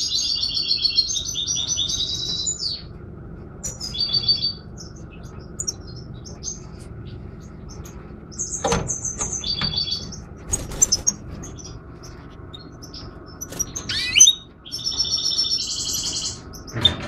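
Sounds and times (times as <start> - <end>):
birds trilling chirps: 0.0 - 17.0.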